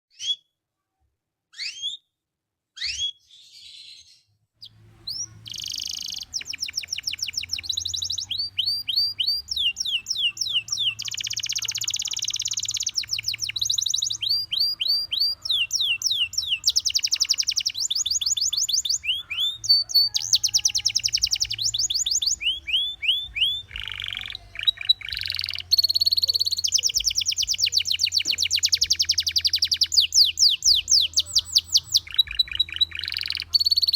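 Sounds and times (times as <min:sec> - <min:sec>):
canary singing trills: 0:01.5 - 0:02.0, 0:02.8 - 0:33.9.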